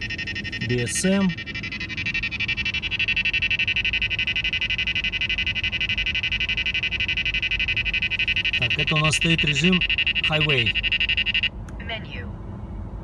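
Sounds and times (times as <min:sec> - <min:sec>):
radar detector alert beeping: 0:00.0 - 0:11.5.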